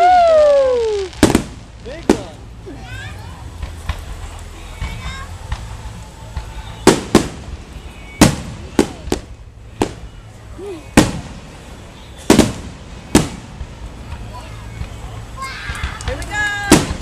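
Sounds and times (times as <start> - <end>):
fireworks bangs with echo: 0.0 - 10.2, 10.8 - 17.0.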